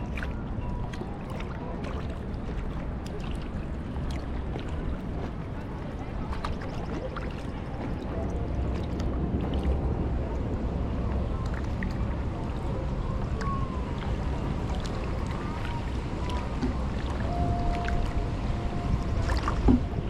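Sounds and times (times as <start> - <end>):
paddle splashing water: 0.0 - 20.0
wind rumble on microphone: 0.0 - 20.0.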